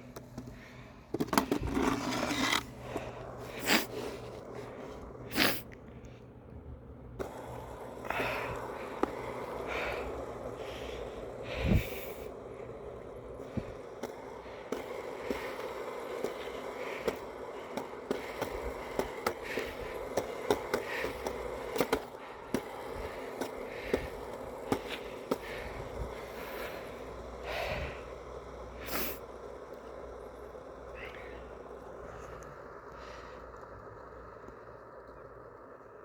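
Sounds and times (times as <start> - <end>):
skateboard clicking over bumps: 0.0 - 36.0
skateboard wheels rolling on pavement: 0.0 - 36.0.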